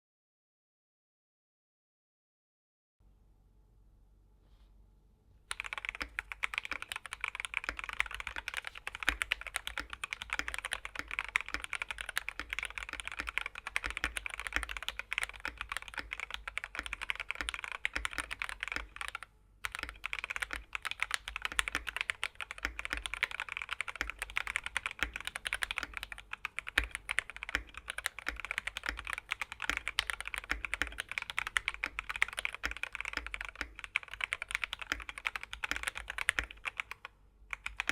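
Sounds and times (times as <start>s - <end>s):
mechanical keyboard typing: 5.5s - 37.9s.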